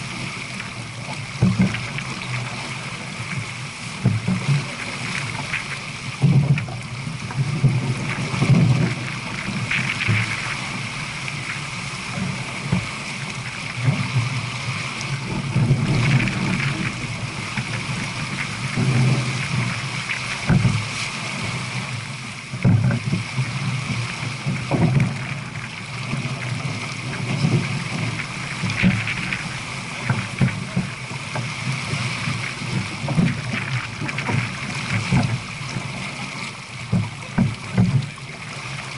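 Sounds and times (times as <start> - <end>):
water rushing along boat hull: 0.0 - 38.9
wind rumble on microphone: 0.0 - 38.9.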